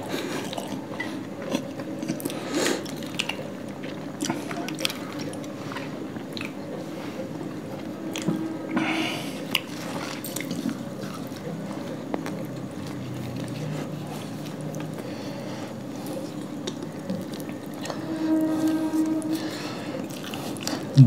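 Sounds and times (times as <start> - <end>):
wet chewing and eating: 0.0 - 18.0, 19.6 - 21.0.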